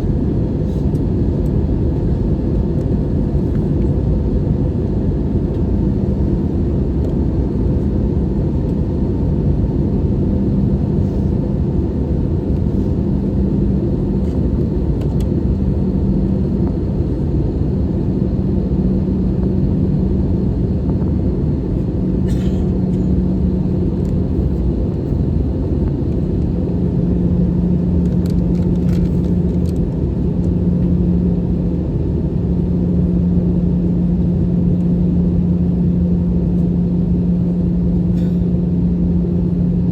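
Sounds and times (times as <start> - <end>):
airplane cabin rumble: 0.0 - 39.9
constant hum: 0.0 - 39.9.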